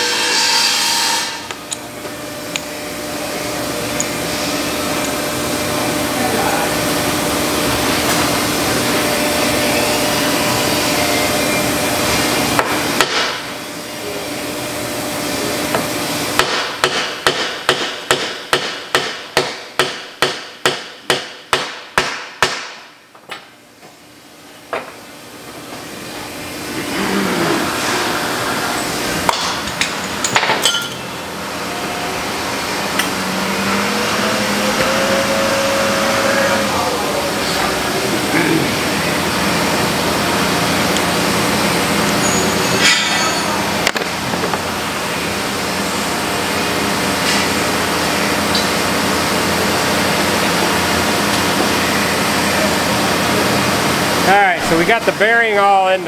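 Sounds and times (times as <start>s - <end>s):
steady machine noise: 0.0s - 21.2s, 25.0s - 56.0s.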